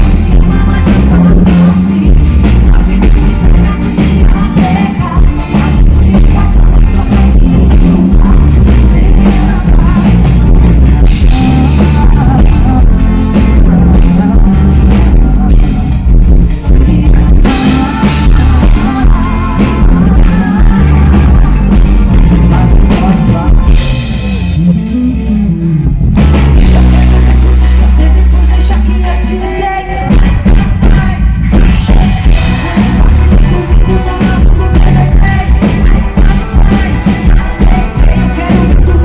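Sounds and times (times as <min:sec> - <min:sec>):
drum kit: 0:00.0 - 0:39.0
heavy bass: 0:00.0 - 0:39.0
person singing: 0:00.0 - 0:39.0.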